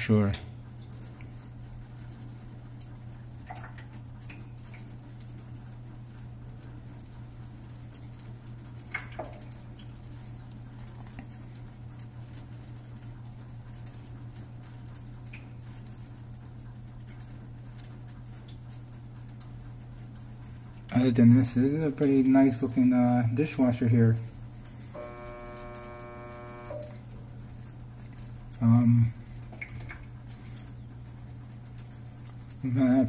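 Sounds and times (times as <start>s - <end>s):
dishwasher humming: 0.0s - 33.0s
water dripping and pattering: 0.0s - 33.0s.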